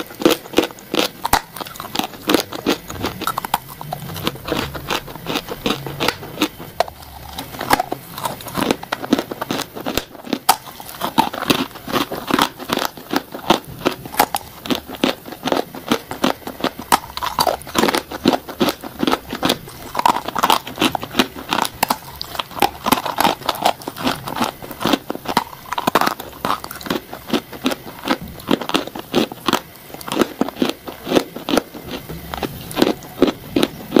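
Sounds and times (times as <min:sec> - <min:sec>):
crunchy bites into clay blocks: 0:00.1 - 0:33.8.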